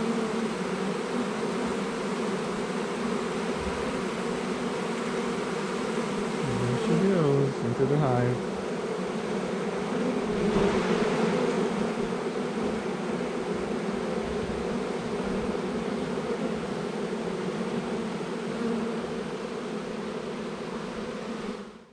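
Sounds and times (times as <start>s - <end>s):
bees buzzing: 0.0s - 21.8s.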